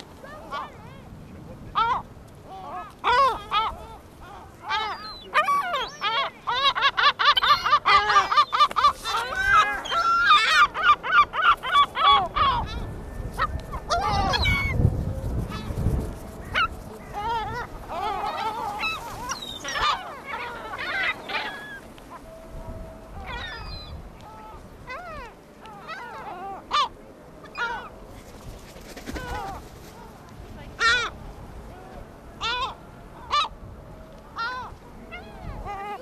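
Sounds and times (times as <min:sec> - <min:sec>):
gulls calling: 0:00.0 - 0:28.2, 0:28.8 - 0:36.0
wings buffeting microphone: 0:00.0 - 0:36.0.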